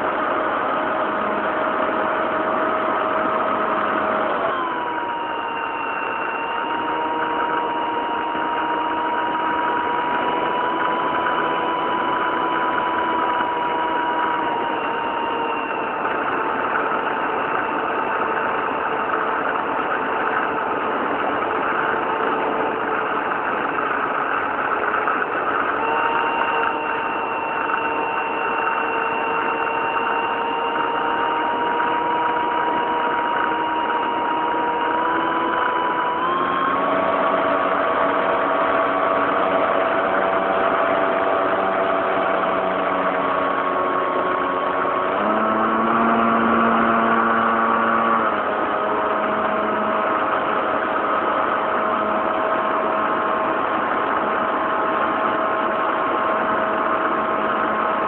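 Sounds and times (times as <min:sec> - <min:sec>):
model plane motor and propeller whine: 0:00.0 - 0:58.0.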